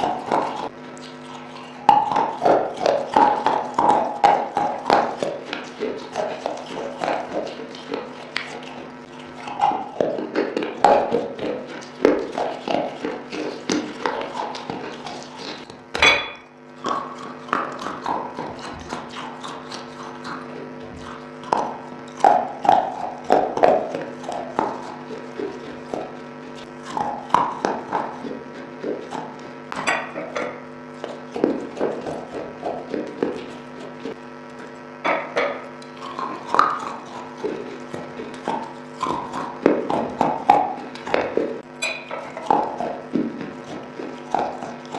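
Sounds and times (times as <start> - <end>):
clay being chewed with crunches: 0.0 - 44.9
low electrical hum: 0.0 - 44.9.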